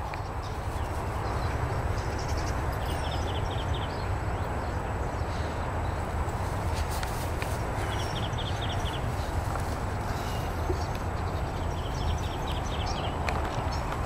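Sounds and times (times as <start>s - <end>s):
dogs rustling through grass: 0.0s - 3.8s, 5.9s - 14.0s.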